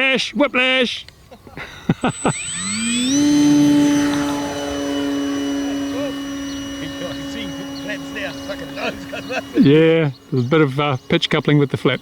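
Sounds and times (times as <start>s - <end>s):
electric motor whine: 1.2s - 12.0s.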